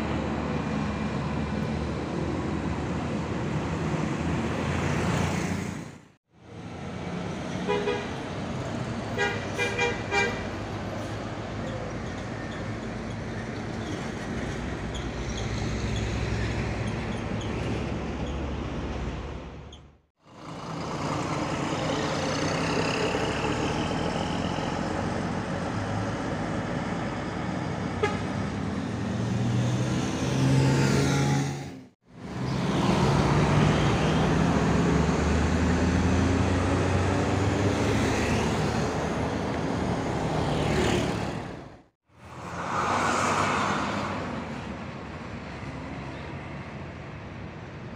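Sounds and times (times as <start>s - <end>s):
buses driving past: 0.0s - 47.9s.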